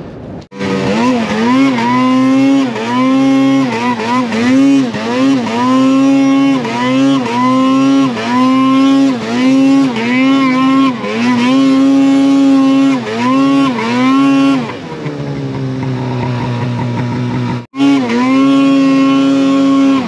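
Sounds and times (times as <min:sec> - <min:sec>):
snowmobile engine revving: 0:00.4 - 0:20.0.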